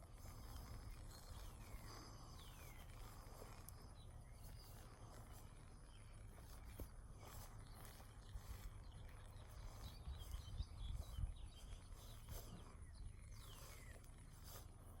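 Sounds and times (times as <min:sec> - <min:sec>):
wind rumble on microphone: 0:00.0 - 0:15.0
bird chirps: 0:00.3 - 0:14.6.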